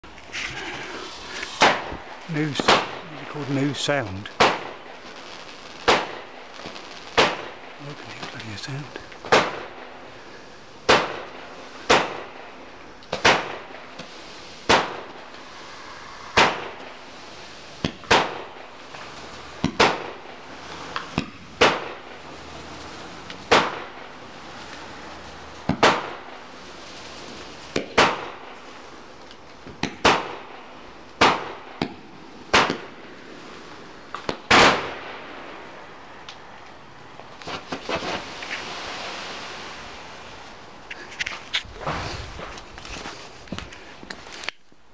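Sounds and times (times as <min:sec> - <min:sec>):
firework shots popping: 0:00.2 - 0:36.4, 0:37.2 - 0:44.3.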